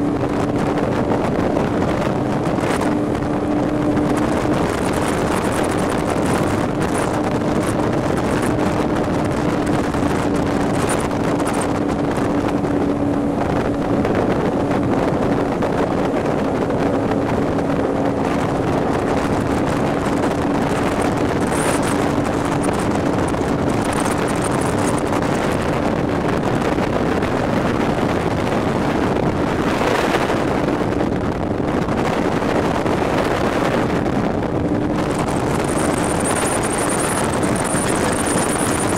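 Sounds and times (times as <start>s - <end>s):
boat engine running: 0.0s - 38.9s
wind buffeting microphone: 0.0s - 38.9s.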